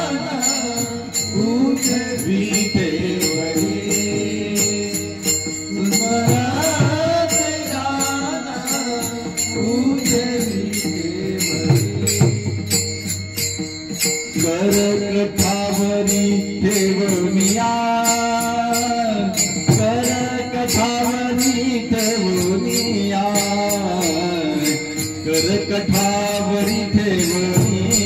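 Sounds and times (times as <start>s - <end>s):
man singing devotional melody: 0.0s - 28.0s
small hand cymbals struck: 0.0s - 28.0s.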